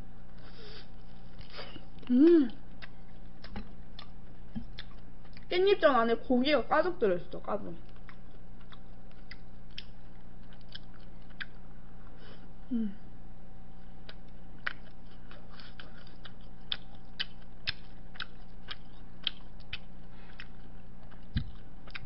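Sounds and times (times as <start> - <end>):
low electrical hum: 0.0 - 22.0
close-miked chewing: 0.3 - 5.5, 7.8 - 12.2, 14.0 - 22.0.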